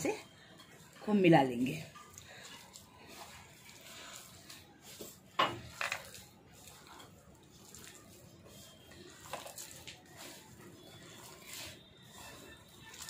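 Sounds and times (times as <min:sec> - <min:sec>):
hand kneading food in a bowl: 0:00.0 - 0:13.0.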